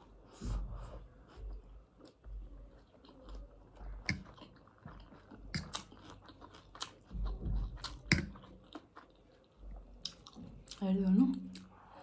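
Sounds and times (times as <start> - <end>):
person chewing food: 0.0 - 10.8.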